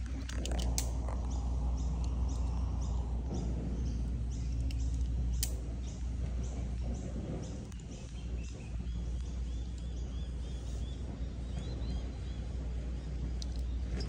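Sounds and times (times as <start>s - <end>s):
birds chirping: 0.0s - 14.0s
low rumble: 0.0s - 14.0s.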